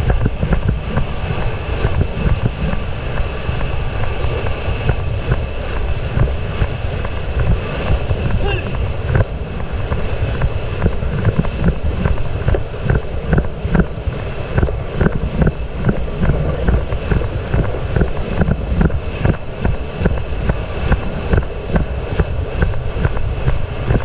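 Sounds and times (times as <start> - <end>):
horse galloping: 0.0 - 24.0
wind buffeting microphone: 0.0 - 24.0.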